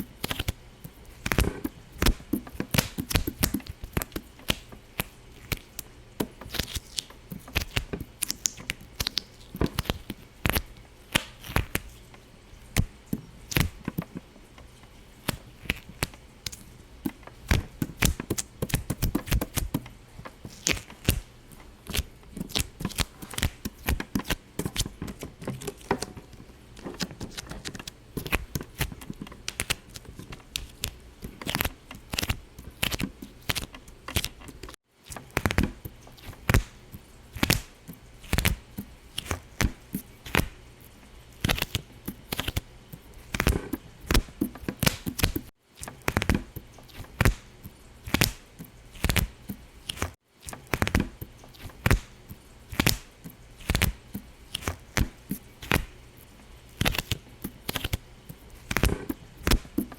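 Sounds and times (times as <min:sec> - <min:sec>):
rapid irregular popping: 0:00.0 - 0:59.9.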